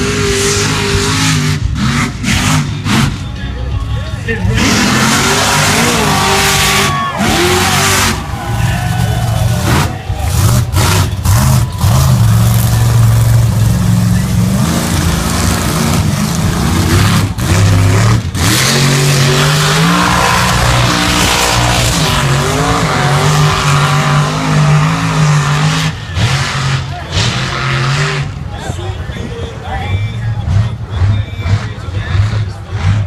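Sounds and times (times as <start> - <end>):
truck engine revving hard: 0.0 - 3.4, 4.3 - 33.0
tires churning mud: 0.0 - 33.0.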